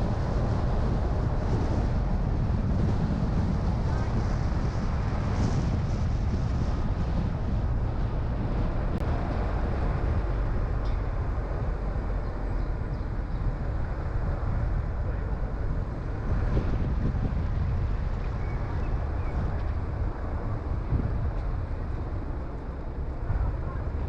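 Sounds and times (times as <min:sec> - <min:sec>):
car driving: 0:00.0 - 0:24.0
wind hiss: 0:00.0 - 0:24.0.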